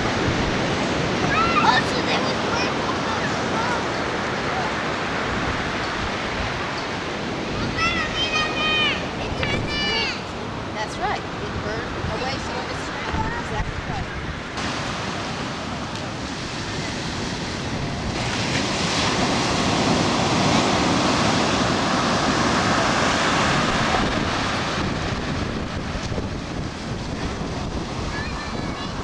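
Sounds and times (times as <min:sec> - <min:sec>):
ocean surf washing on shore: 0:00.0 - 0:29.0
wind buffeting microphone: 0:00.0 - 0:29.0.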